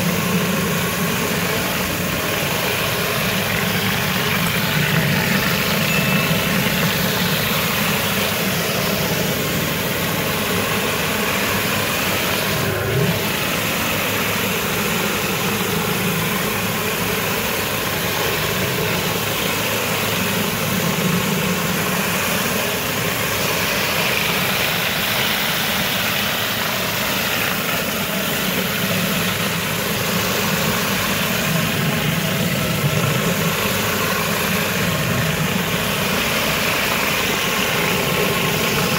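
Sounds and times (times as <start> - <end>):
pressure washer spraying: 0.0 - 38.9.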